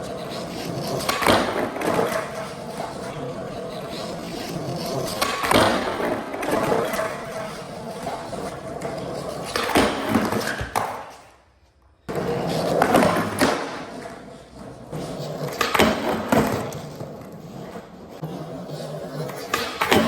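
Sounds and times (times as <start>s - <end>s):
skateboard wheels rolling: 0.0s - 20.0s.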